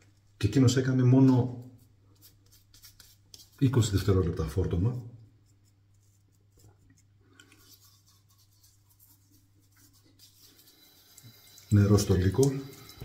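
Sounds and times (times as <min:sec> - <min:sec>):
fingers rubbing lathered cheek: 0:01.2 - 0:04.8, 0:05.4 - 0:13.0.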